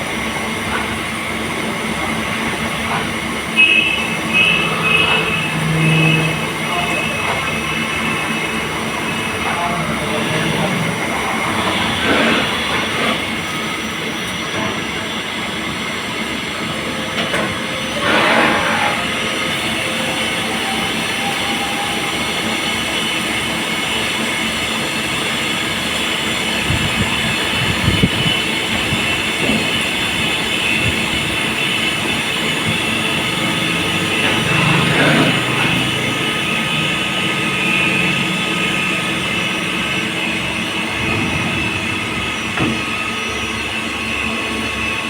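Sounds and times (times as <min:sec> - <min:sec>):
cnc machine running: 0:00.0 - 0:45.0.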